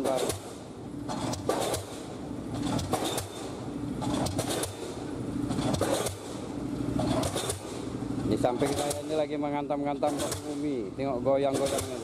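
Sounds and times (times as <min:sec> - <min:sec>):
pile-driving hammer blows: 0:00.0 - 0:09.3, 0:11.4 - 0:12.0
steady machine hum: 0:00.0 - 0:12.0.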